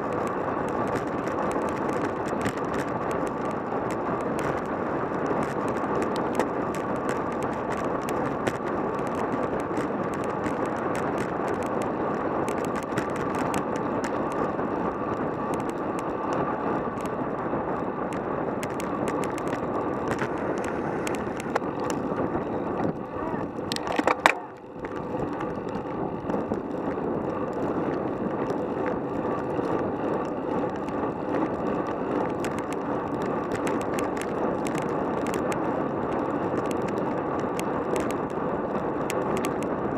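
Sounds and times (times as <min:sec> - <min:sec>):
bicycle clicks and rattles: 0:00.0 - 0:39.9
tyres on asphalt: 0:00.0 - 0:39.9
wind noise: 0:00.0 - 0:39.9.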